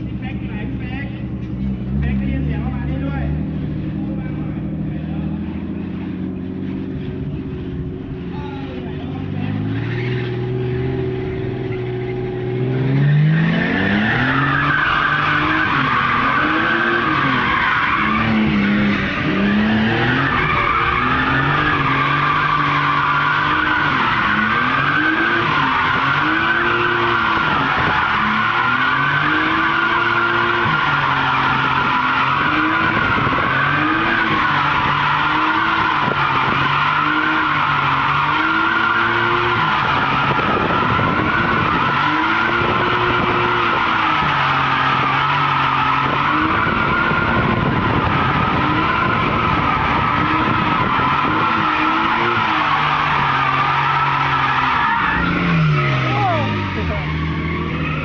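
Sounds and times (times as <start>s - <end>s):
car engine revving: 0.0s - 58.0s
tyres squealing: 8.6s - 58.0s.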